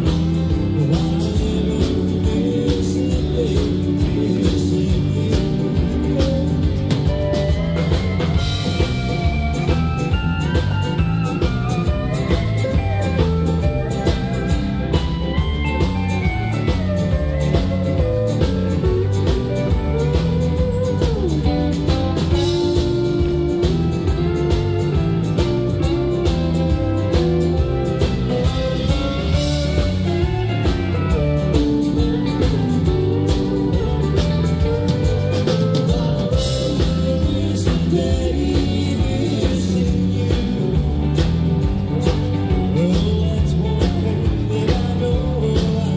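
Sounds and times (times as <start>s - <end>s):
drum kit steady beat: 0.0s - 45.9s
electric bass: 0.0s - 45.9s
electric guitar: 0.0s - 45.9s
pedal steel guitar: 0.0s - 45.9s.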